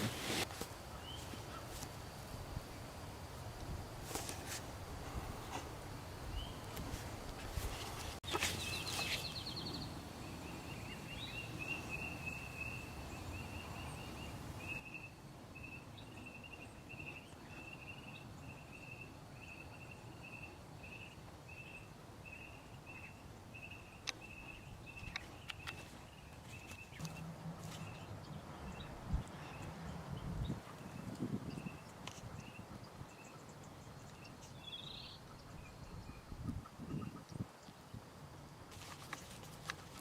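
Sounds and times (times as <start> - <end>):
outdoor background noise: 0.0 - 40.0.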